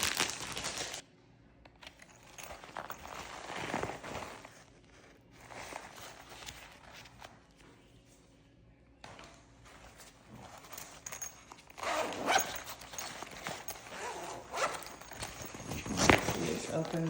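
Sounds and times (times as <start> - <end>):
plastic bag rustling: 0.0 - 1.0, 2.2 - 7.5, 9.6 - 17.0.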